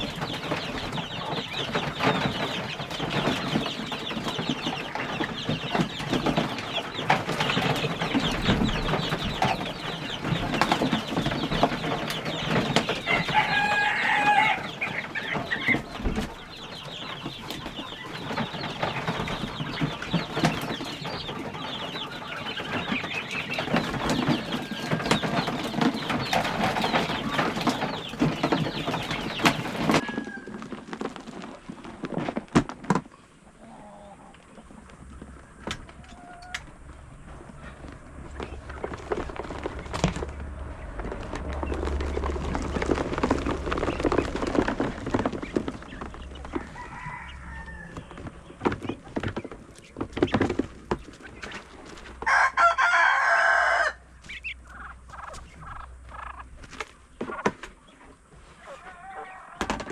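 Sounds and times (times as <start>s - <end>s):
poultry clucking: 0.0s - 59.9s.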